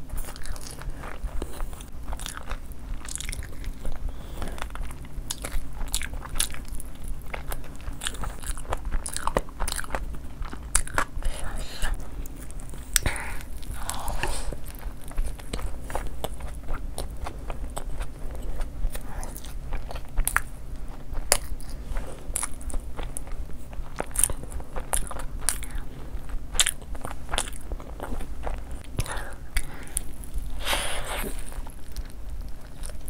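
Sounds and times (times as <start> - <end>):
person chewing crunchy food: 0.0 - 33.0.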